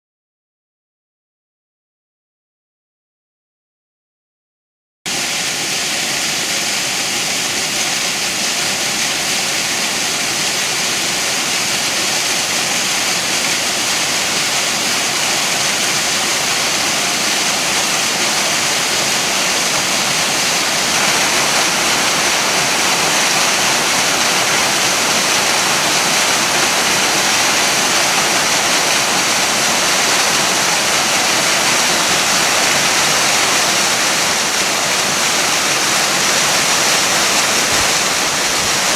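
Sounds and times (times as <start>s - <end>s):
waterfall rushing: 5.1s - 38.9s.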